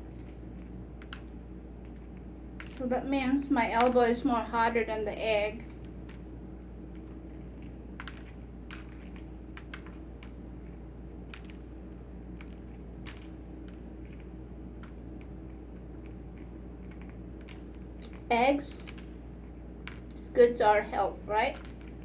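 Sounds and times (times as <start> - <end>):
egg shell being peeled: 0.0 - 4.2, 5.6 - 22.0
steady low hum: 0.0 - 22.0.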